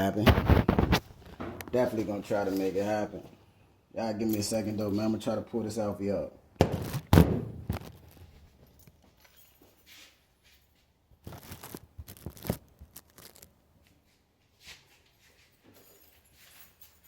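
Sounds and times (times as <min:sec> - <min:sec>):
faint rustling and scraping handling: 0:00.1 - 0:06.2, 0:07.7 - 0:17.0.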